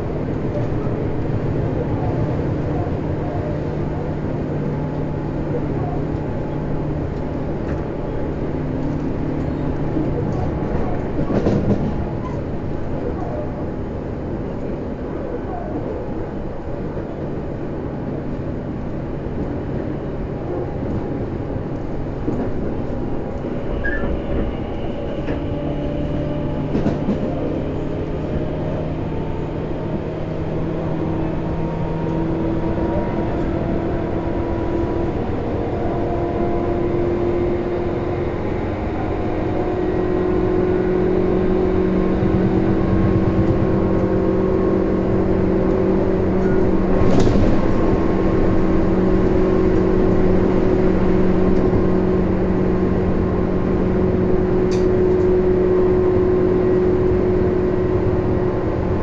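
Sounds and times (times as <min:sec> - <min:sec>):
train running noise from inside: 0:00.0 - 0:59.0.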